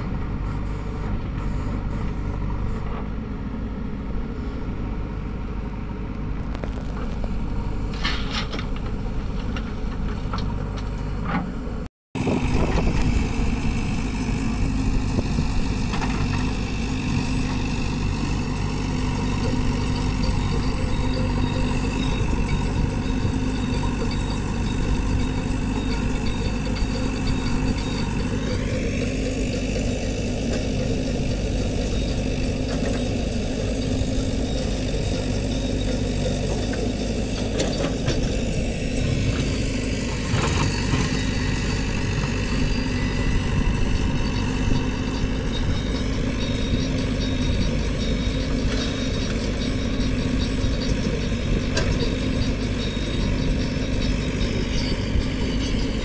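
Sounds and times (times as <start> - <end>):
backhoe diesel engine digging: 0.0 - 56.0
tractor engine idling: 0.0 - 56.0.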